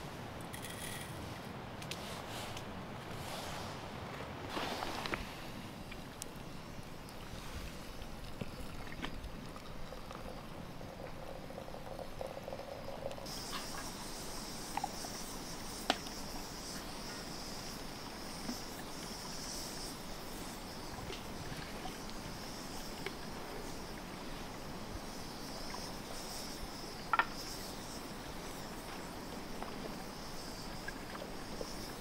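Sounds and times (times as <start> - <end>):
campfire hissing and popping: 4.4 - 32.0
hot water trickling into teapot: 5.8 - 32.0.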